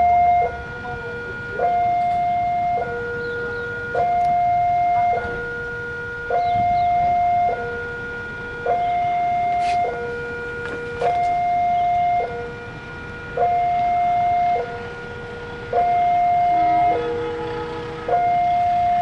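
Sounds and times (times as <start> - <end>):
level crossing two-tone alarm: 0.0 - 19.0.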